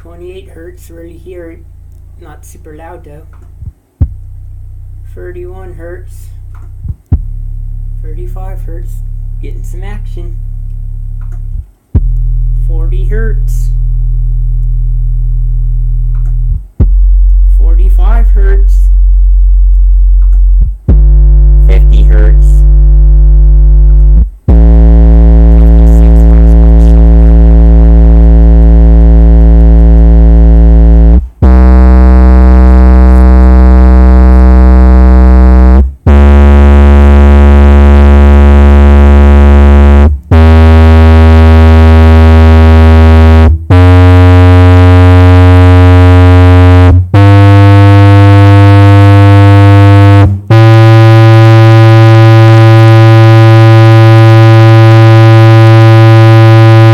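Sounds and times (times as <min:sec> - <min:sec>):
low-frequency test tones: 0:03.2 - 0:56.9.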